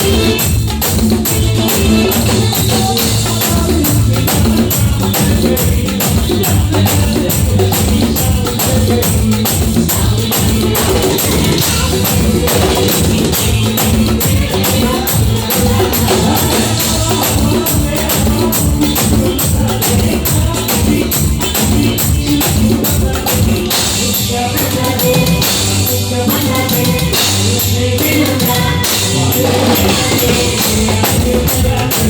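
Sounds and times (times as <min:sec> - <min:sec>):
drums beating fast: 0:00.0 - 0:32.0
live band music: 0:00.0 - 0:32.0.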